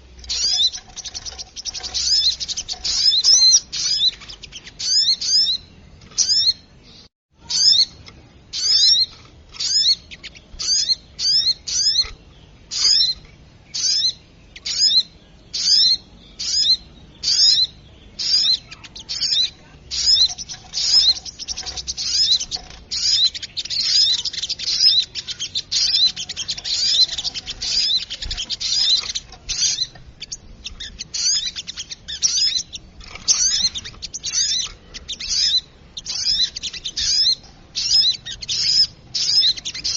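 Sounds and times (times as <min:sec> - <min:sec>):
small songbird chirping: 0:00.0 - 0:39.9.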